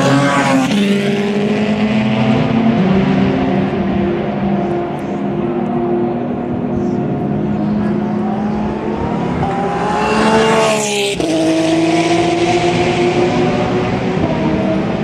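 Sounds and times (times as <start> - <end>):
other racing car engines: 0.0 - 15.0
racing car accelerating and shifting: 0.0 - 15.0.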